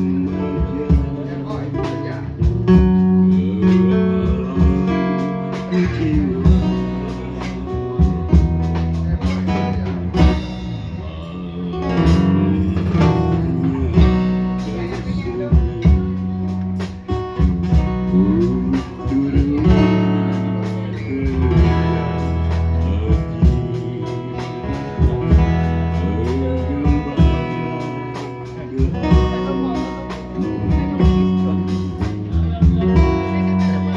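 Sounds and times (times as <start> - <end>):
bass guitar line: 0.0 - 33.9
man singing through microphone: 0.0 - 33.9
strummed guitar: 0.0 - 33.9.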